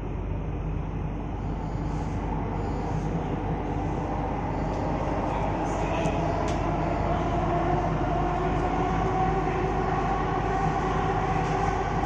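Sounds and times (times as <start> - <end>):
train rumble with rising whine: 0.0 - 12.0.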